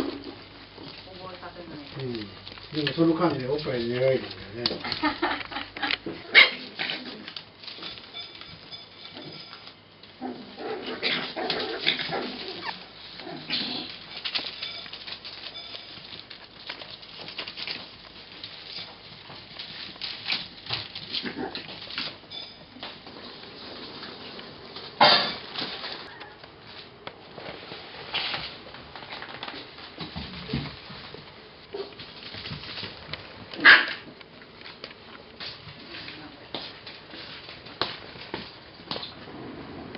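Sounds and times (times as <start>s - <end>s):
paws scuffling and pattering: 0.0s - 39.4s.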